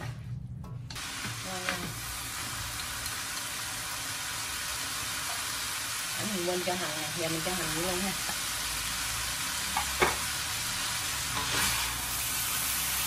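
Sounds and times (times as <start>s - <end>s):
food sizzling in a wok: 0.9s - 13.0s.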